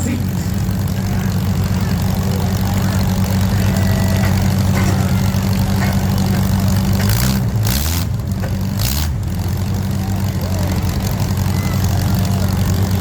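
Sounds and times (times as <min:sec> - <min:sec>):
car engines idling: 0:00.0 - 0:13.0
engine revving: 0:00.0 - 0:13.0.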